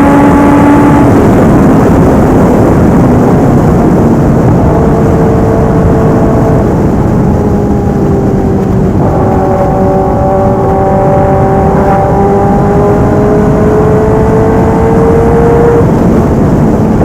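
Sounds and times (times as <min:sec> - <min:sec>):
motorcycle engine running hard: 0:00.0 - 0:17.0
road and wind noise: 0:00.0 - 0:17.0.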